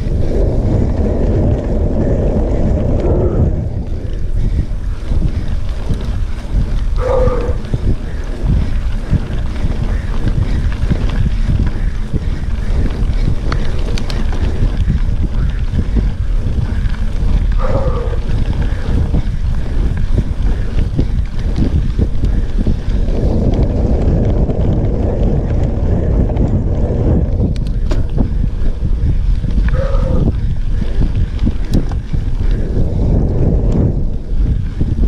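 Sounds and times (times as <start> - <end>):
bike tyres rumbling and rattling: 0.0 - 35.0
wind buffeting microphone: 0.0 - 35.0.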